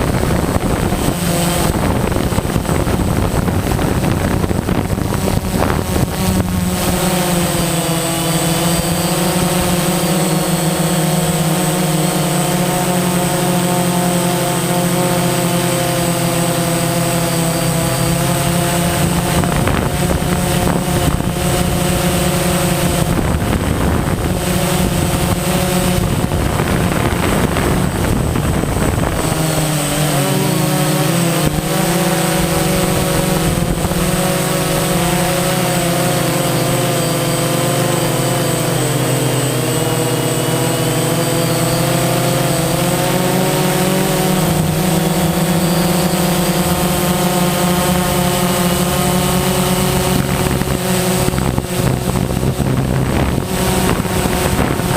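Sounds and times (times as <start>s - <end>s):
drone propellers whirring: 0.0s - 54.9s
thin high whine: 0.0s - 54.9s.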